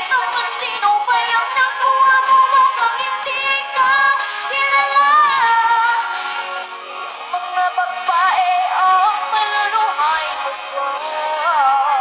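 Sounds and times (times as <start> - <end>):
girl singing a ballad: 0.0 - 12.0.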